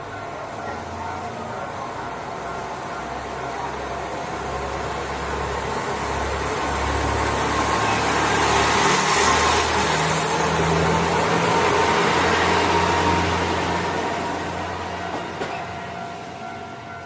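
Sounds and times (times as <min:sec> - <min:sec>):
diesel railcar engine running: 0:00.0 - 0:17.0.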